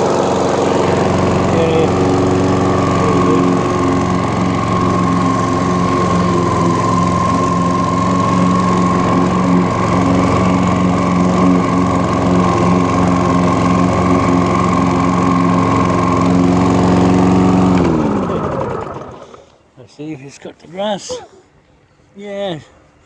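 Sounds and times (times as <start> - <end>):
lawnmower engine running: 0.0 - 19.6.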